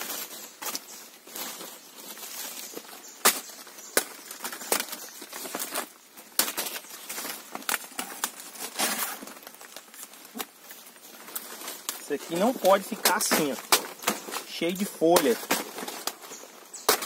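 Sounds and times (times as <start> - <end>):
dry leaves and straw crackling: 0.0 - 17.0.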